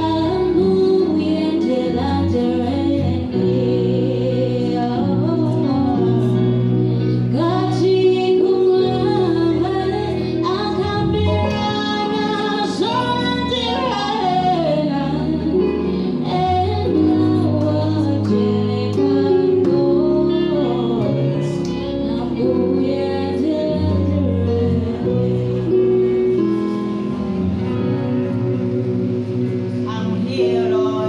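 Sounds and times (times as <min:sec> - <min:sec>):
woman singing gospel: 0:00.0 - 0:26.5, 0:28.2 - 0:31.0
instrumental accompaniment: 0:00.0 - 0:31.0.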